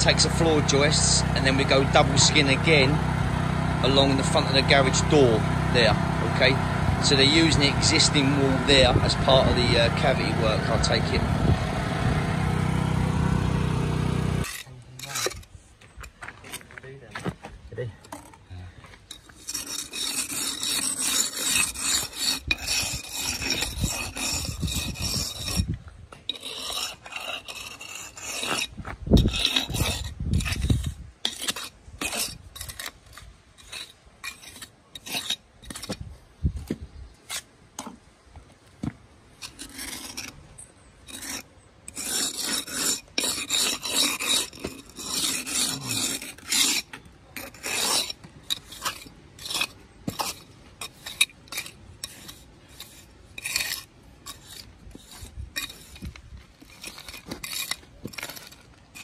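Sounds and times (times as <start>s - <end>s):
trowel scraping mortar: 0.0s - 17.3s, 17.9s - 38.1s, 38.8s - 59.0s.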